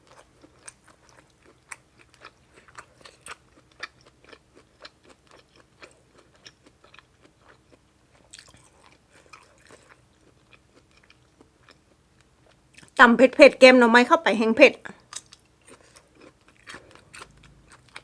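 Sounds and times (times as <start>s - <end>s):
person chewing crunchy food: 0.0s - 12.9s, 15.0s - 18.0s.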